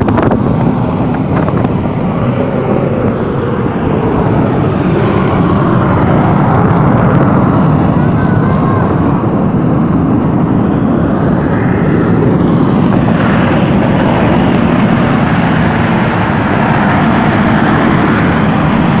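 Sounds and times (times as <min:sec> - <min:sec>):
volcanic crater rumbling roar: 0:00.0 - 0:19.0.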